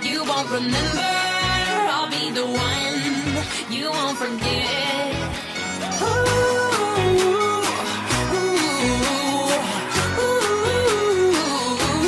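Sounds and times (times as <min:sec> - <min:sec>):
pop dance music: 0:00.0 - 0:12.0.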